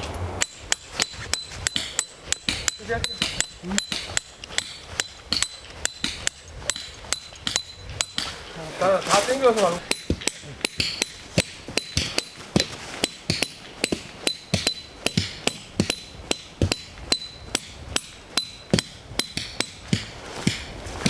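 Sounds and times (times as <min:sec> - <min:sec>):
hammer striking tent peg: 0:00.4 - 0:08.5, 0:09.6 - 0:20.8.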